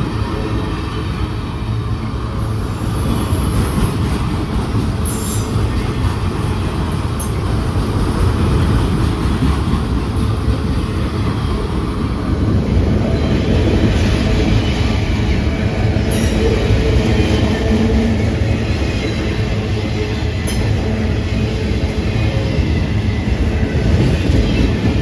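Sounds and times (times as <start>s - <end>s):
train wheels rumbling and clattering: 0.0s - 25.0s.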